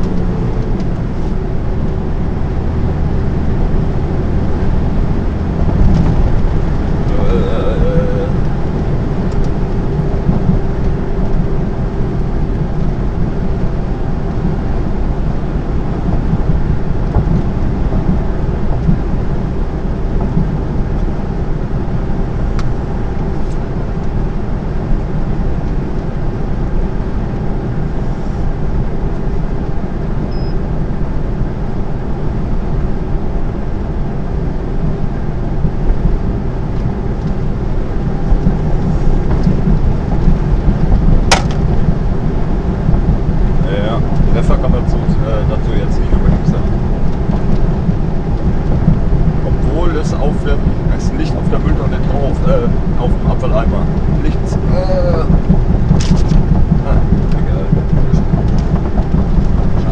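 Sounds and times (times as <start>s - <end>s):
diesel engine drone: 0.0s - 59.9s
tyre and road noise: 0.0s - 59.9s.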